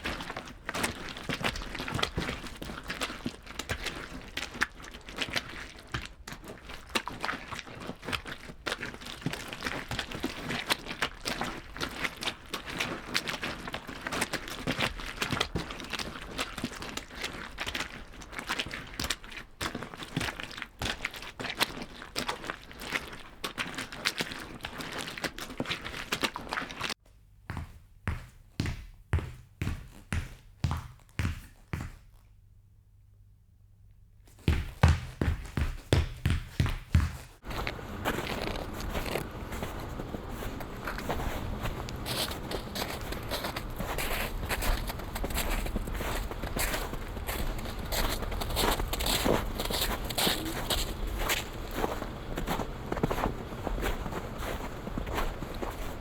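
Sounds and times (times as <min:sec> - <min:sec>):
footsteps crunching on loose ground: 0:00.0 - 0:32.3, 0:34.3 - 0:56.0.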